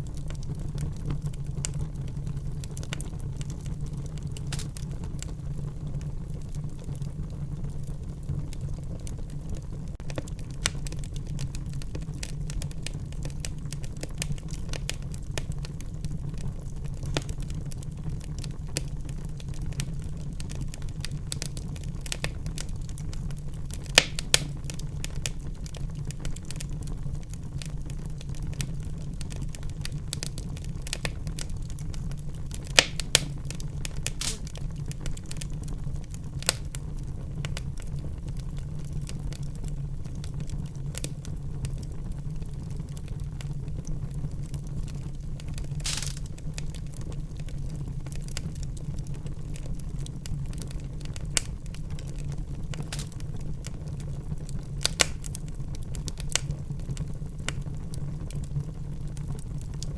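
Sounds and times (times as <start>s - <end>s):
fire crackling: 0.0s - 59.9s
loud fire pops: 0.0s - 59.9s
low rumble of flames: 0.0s - 59.9s.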